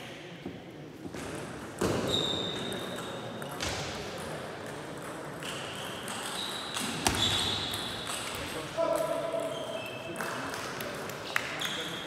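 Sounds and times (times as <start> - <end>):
table tennis play: 0.0 - 12.0.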